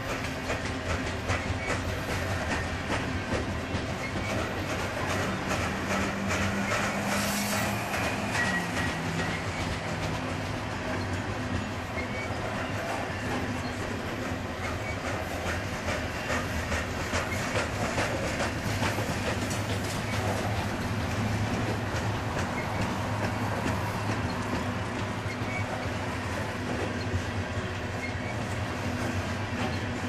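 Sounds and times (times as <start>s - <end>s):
clickety-clack over rail joints: 0.0s - 30.0s
train wheels rumbling on rail: 0.0s - 30.0s.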